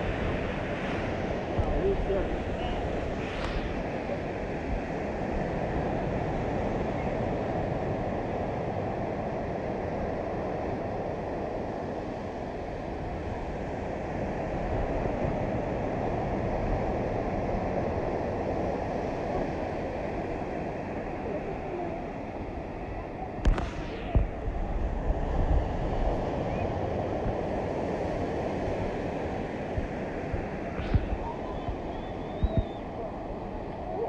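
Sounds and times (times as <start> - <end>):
surf roar: 0.0 - 34.0
wind buffeting microphone: 0.0 - 34.0.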